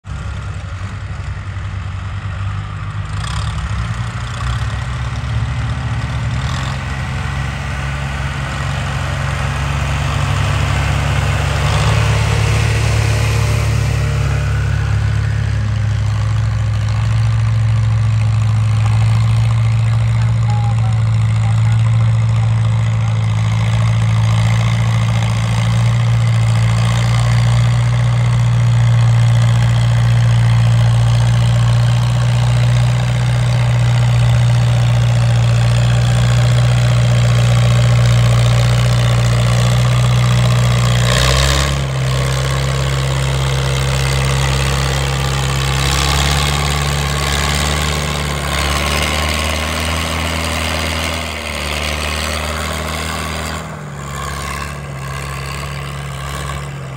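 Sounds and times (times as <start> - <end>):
tractor engine running under load: 0.0 - 56.9.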